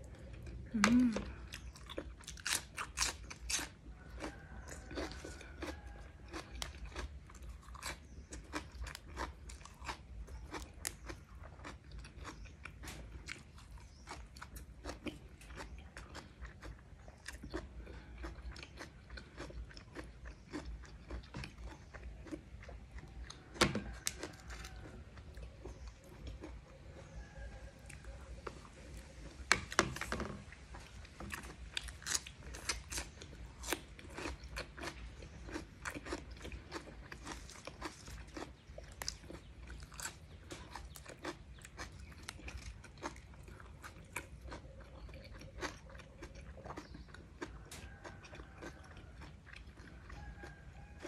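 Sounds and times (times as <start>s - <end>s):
chewing and crunching cucumber: 0.0s - 51.0s.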